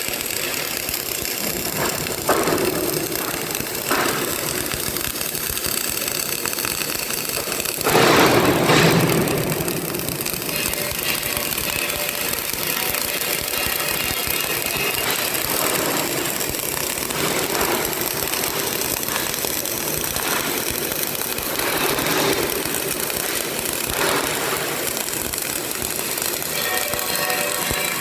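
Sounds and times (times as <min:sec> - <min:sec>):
welding arc crackling sizzle: 0:00.0 - 0:28.0.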